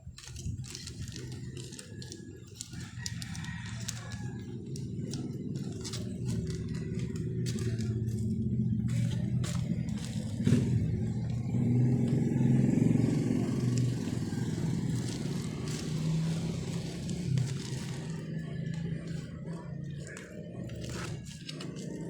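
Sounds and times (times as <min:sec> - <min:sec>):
motorcycle engine revving: 0:00.4 - 0:22.0.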